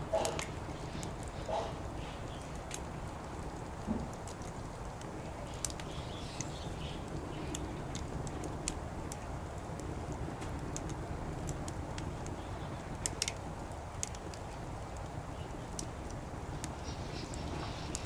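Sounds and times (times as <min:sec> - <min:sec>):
low background rumble: 0:00.0 - 0:18.0
wood fire crackling: 0:00.0 - 0:18.0.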